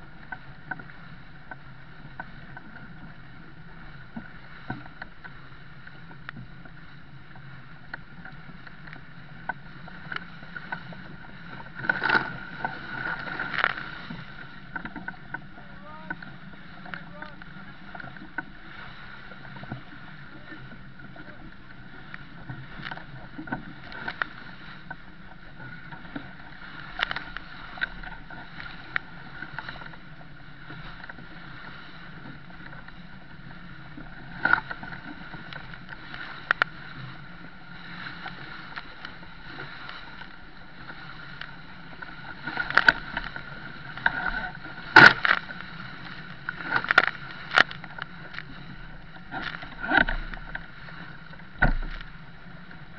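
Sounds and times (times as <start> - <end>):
water and wind rushing along hull: 0.0 - 52.9
waves splashing over bow: 0.0 - 52.9.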